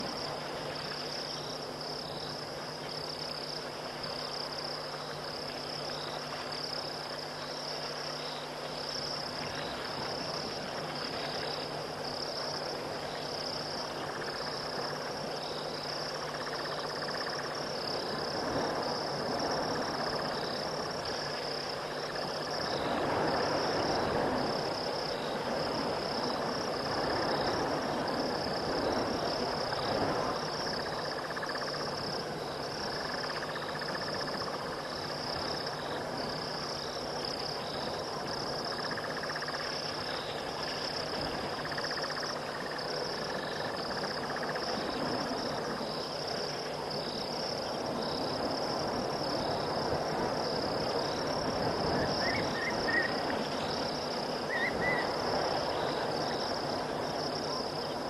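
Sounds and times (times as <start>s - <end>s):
crickets trilling and chirping: 0.0s - 58.0s.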